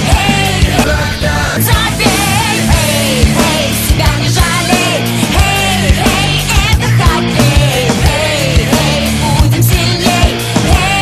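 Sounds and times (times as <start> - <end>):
hard rock music: 0.0 - 11.0.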